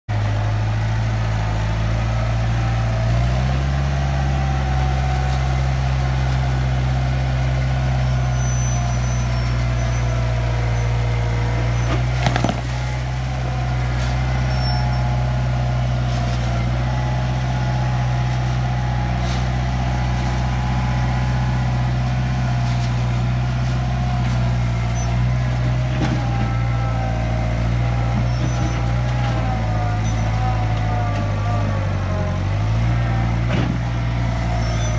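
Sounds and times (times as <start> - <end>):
backhoe diesel engine running: 0.1 - 34.9.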